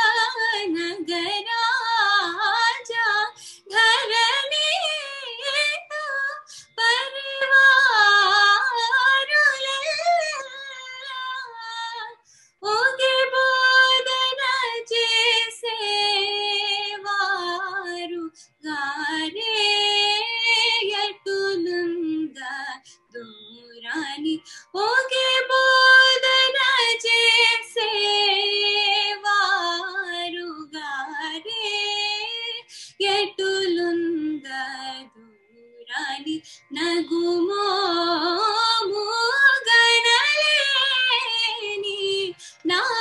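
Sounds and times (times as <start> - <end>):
woman singing wordless phrases: 0.0 - 43.0.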